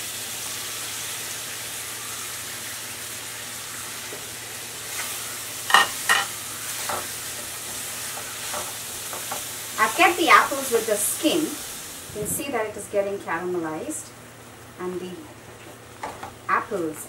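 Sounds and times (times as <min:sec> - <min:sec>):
apples sizzling in hot sugar: 0:00.0 - 0:14.0.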